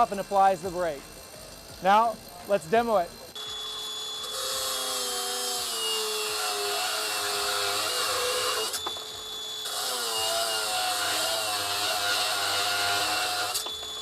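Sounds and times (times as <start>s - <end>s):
angle grinder motor whine: 0.0s - 14.0s.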